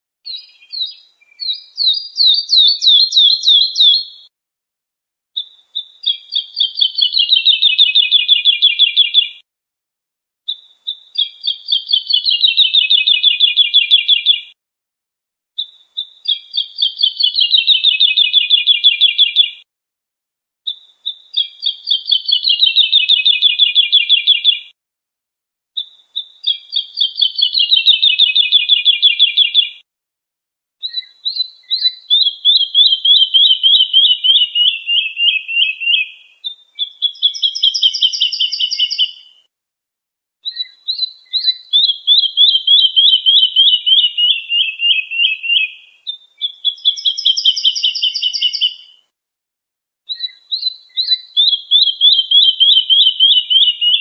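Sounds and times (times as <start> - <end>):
lark singing trilled phrases: 0.3 - 4.3, 5.4 - 9.4, 10.5 - 14.5, 15.6 - 19.6, 20.7 - 24.7, 25.8 - 29.8, 30.8 - 39.4, 40.4 - 49.1, 50.1 - 54.0.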